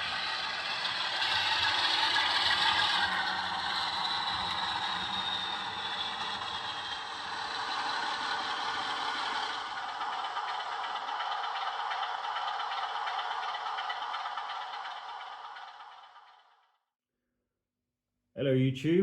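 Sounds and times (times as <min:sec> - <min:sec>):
model locomotive engine sound: 0:00.0 - 0:16.8.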